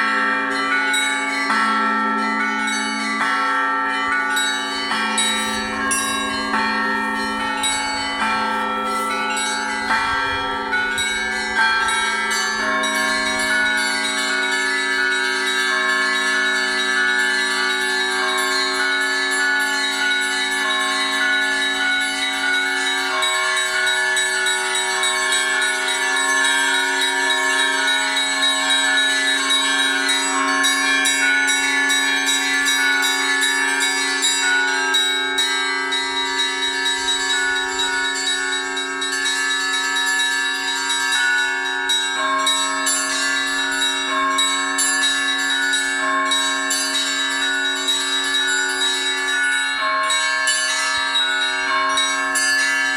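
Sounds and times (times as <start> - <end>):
large bells ringing: 0.0 - 52.9
small high bells ringing: 0.0 - 52.9.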